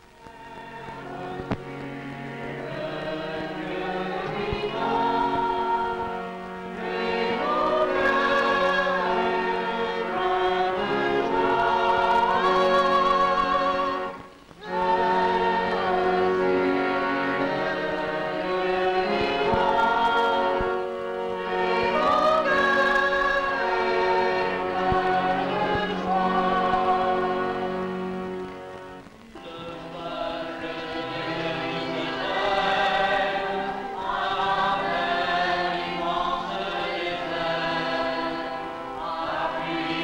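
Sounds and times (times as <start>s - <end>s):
choir singing held chords: 0.0s - 40.0s.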